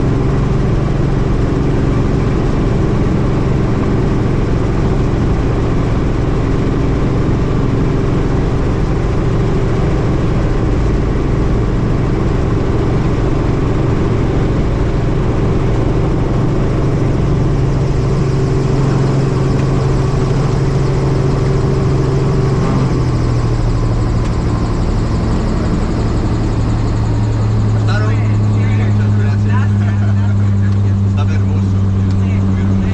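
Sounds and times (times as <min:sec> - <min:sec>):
helicopter turbine and rotor: 0:00.0 - 0:32.9.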